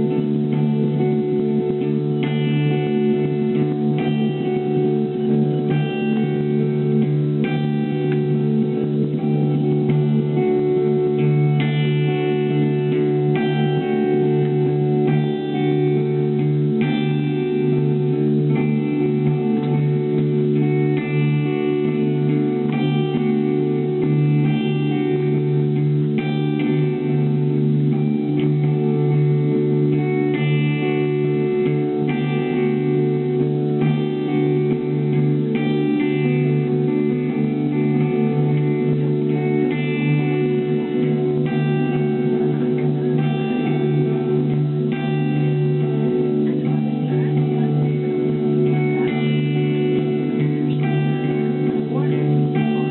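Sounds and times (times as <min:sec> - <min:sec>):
plucked electric guitar notes: 0:00.0 - 0:52.9.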